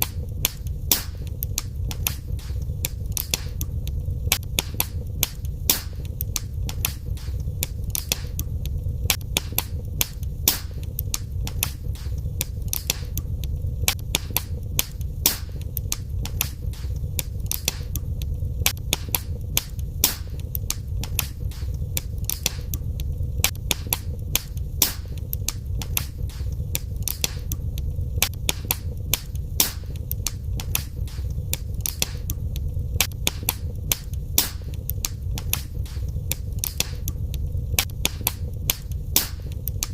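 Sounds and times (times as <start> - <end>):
fire crackling and popping: 0.0 - 39.9
low rumble: 0.0 - 39.9.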